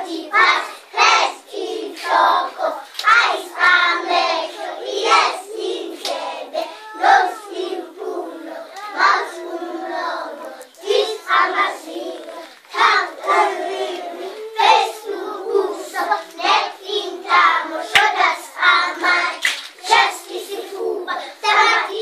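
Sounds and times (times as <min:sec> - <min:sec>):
children singing together: 0:00.0 - 0:22.0.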